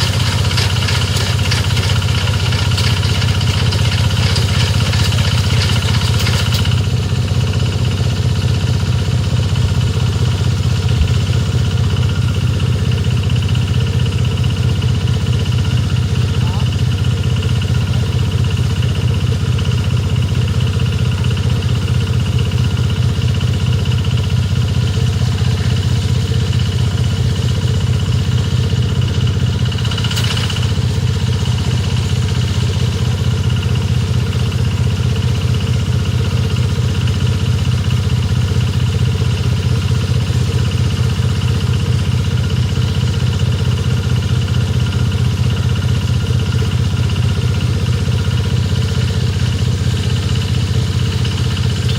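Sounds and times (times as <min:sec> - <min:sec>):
small petrol engine running: 0:00.0 - 0:51.9.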